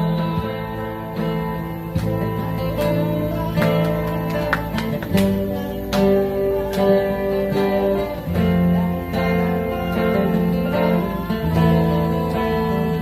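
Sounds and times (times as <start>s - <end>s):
acoustic guitars playing: 0.0s - 13.0s.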